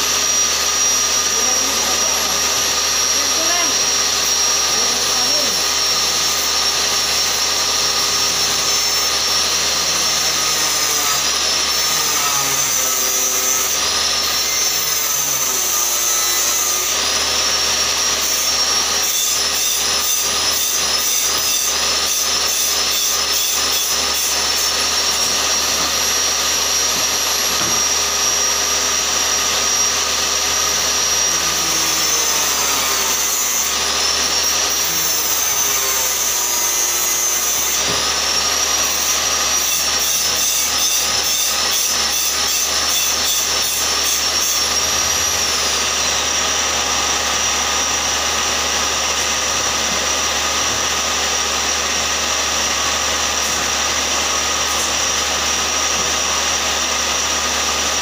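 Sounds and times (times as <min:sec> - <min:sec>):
power saw cutting wood: 0:00.0 - 0:58.0.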